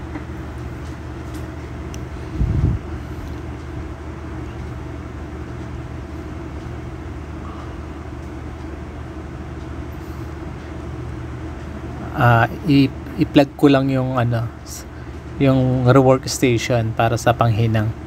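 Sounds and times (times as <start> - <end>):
machinery hum and rumble: 0.0 - 18.0.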